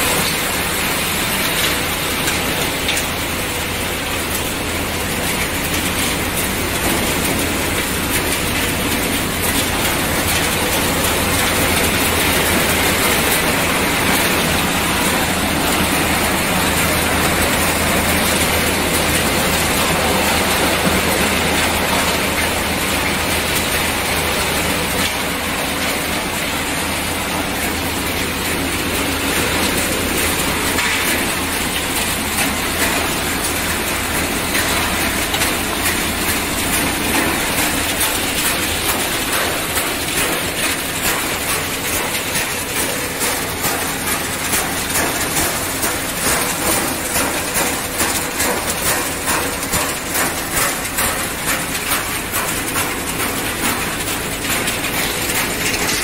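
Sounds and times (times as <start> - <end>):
mechanical clatter and rattle: 0.0 - 56.0.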